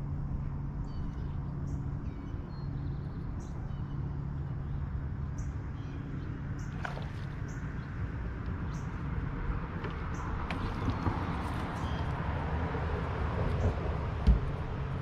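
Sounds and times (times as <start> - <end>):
electric trolling motor humming: 0.0 - 15.0.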